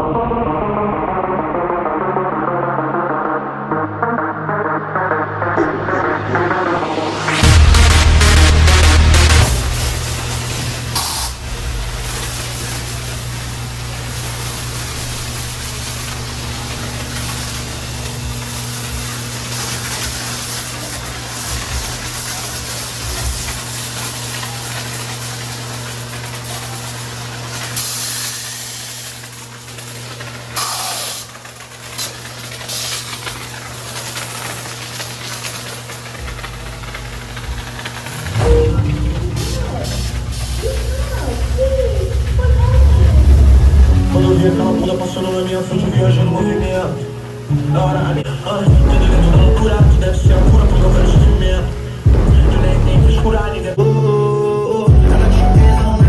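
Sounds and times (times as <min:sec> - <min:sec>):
pressure washer spraying water: 0:05.4 - 0:53.8
pump motor hum: 0:07.4 - 0:53.7.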